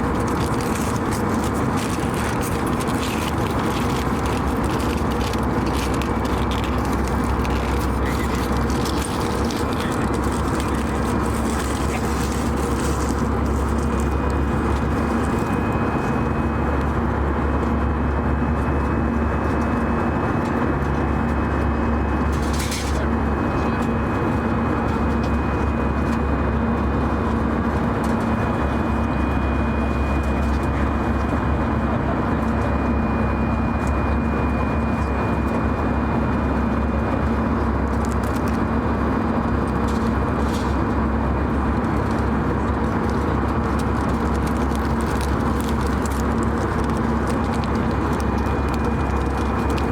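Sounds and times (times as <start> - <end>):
airplane cabin drone: 0.0 - 49.9.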